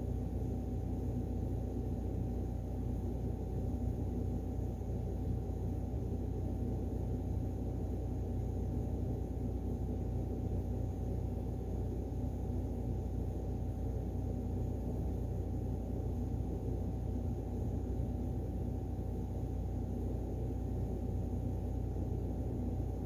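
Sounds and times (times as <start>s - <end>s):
low machine hum and rumble: 0.0s - 23.0s.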